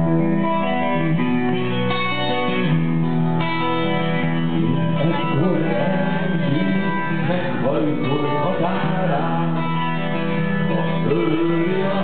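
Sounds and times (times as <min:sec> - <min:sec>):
electric guitars ringing chords: 0:00.0 - 0:12.0
keyboard: 0:00.0 - 0:12.0
live rock band playing: 0:00.0 - 0:12.0.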